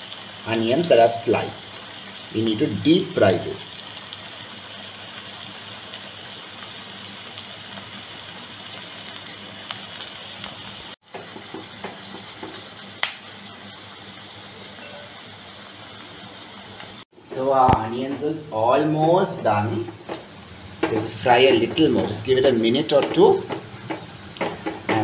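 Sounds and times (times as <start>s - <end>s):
onions sizzling in hot oil: 0.0s - 17.2s, 19.6s - 25.0s.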